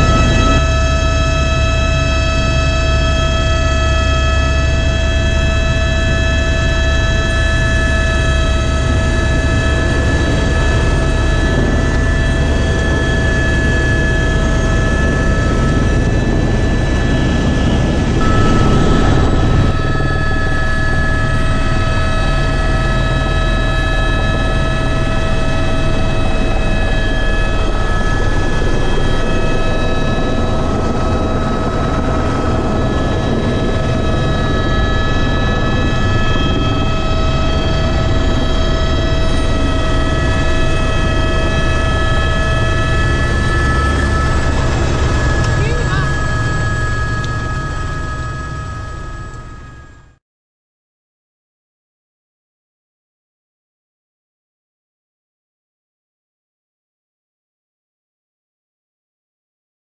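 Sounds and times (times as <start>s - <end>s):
constant whining tones: 0.0s - 50.2s
helicopter rotor and engine drone: 0.0s - 50.2s.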